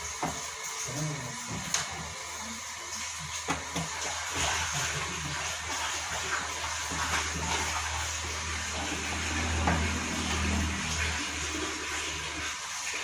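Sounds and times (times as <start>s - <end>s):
washing machine low hum: 0.0s - 13.0s
water running out: 0.0s - 13.0s.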